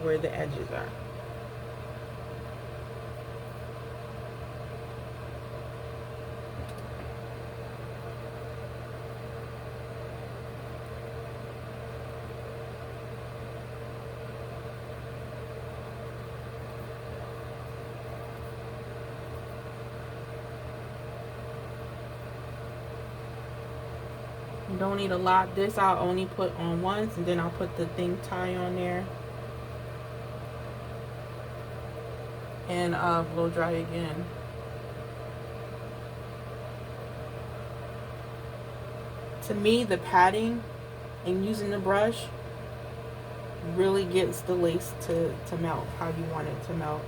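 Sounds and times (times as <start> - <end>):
electric appliance humming: 0.0 - 47.0.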